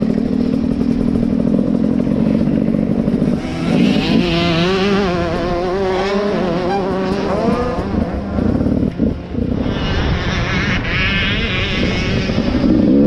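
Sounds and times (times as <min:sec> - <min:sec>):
motocross bike engine running: 0:00.0 - 0:13.0.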